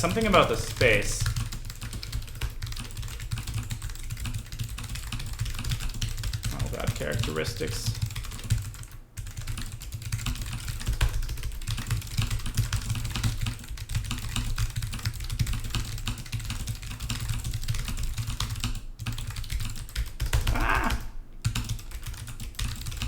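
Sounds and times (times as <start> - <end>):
fast typing on keyboard: 0.0 - 23.0.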